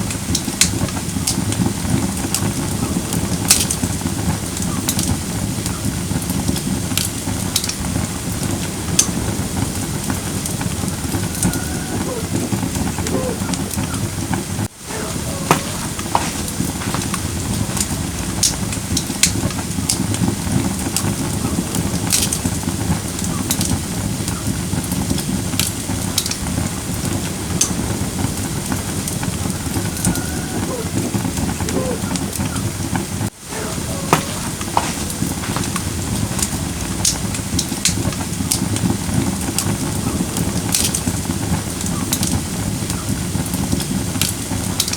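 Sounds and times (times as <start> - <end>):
fire crackling and popping: 0.0 - 44.9
low rumble of fire: 0.0 - 44.9.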